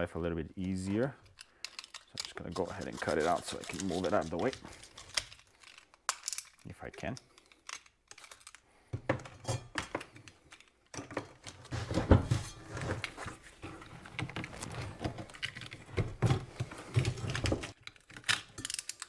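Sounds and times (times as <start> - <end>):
hand tool scraping and creaking: 0.4 - 17.8.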